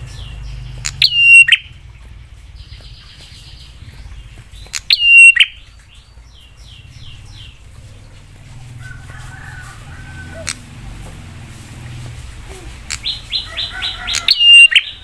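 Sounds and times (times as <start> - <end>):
buzzy bird notes: 0.0 - 8.6, 11.5 - 15.0
bird calling: 0.0 - 15.0.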